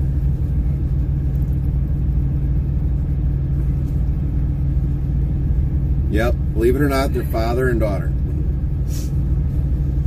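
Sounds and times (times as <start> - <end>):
truck engine rumble: 0.0 - 10.0.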